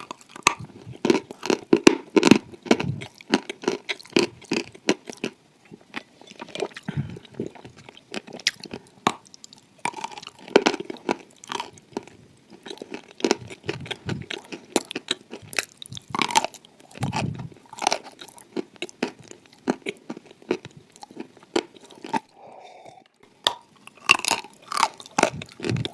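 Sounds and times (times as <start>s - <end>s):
biting and chewing hard clay: 0.0s - 25.9s.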